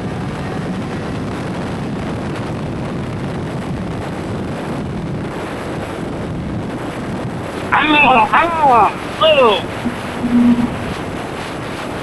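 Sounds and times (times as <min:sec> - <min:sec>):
wind rush on microphone: 0:00.0 - 0:12.0.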